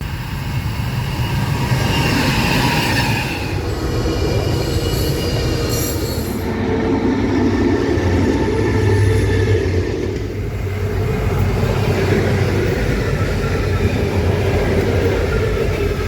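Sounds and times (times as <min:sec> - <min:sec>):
freight train rumble: 0:00.0 - 0:16.0
wheels squealing on rails: 0:00.0 - 0:16.0.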